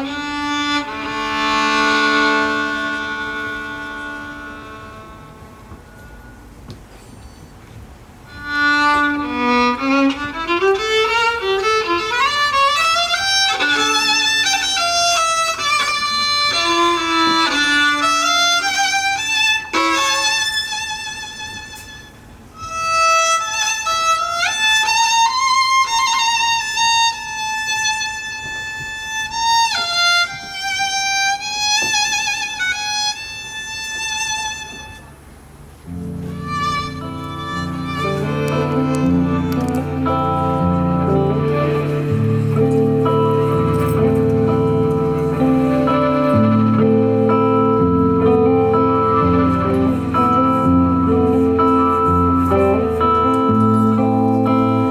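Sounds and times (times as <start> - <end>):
solo violin melody: 0.0 - 6.8, 8.0 - 54.9.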